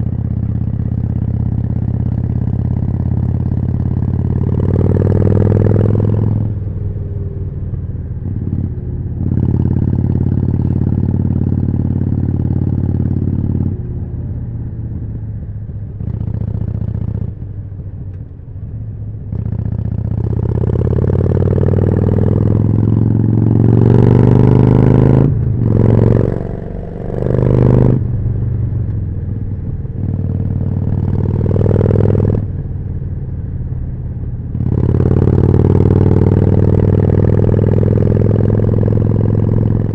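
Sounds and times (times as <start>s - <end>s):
motorcycle engine revving: 0.0s - 14.0s, 16.0s - 17.5s, 19.2s - 39.9s.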